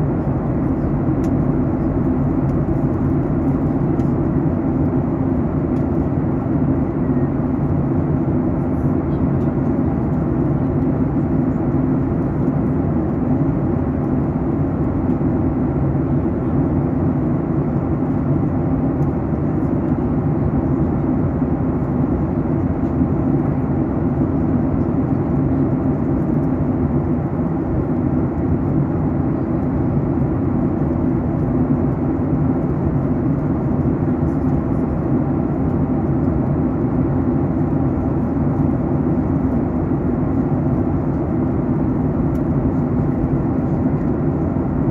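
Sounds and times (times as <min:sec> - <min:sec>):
airliner cabin airflow rush: 0:00.0 - 0:44.9
low engine hum: 0:00.0 - 0:44.9.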